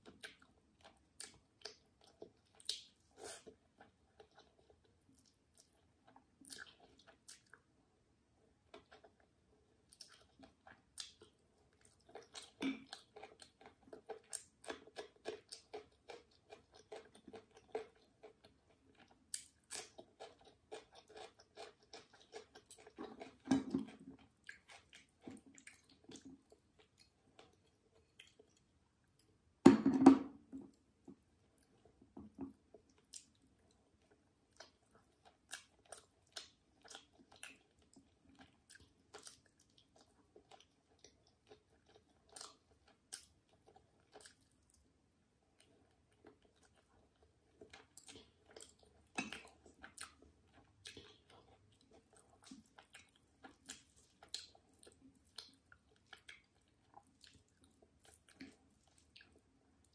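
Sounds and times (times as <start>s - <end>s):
chewing and wet mouth sounds: 0.0s - 29.6s, 30.4s - 59.9s.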